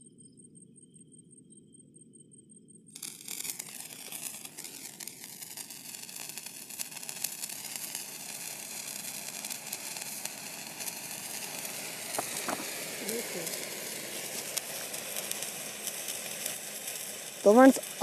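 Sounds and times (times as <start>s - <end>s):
sparklers hissing and crackling: 3.0s - 18.0s.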